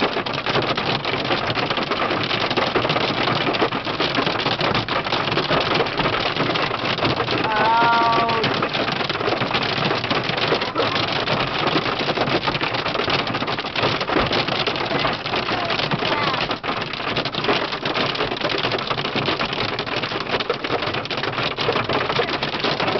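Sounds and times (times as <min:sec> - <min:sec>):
hail clattering on car roof: 0:00.0 - 0:22.9
heavy rain roar: 0:00.0 - 0:22.9.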